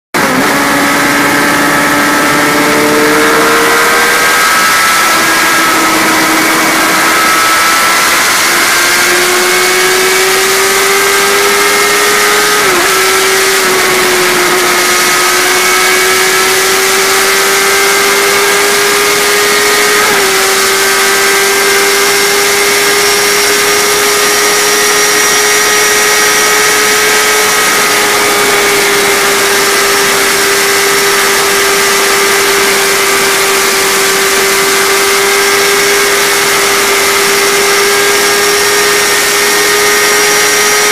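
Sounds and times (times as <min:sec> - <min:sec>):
vehicle engine accelerating hard: 0:00.1 - 0:40.9.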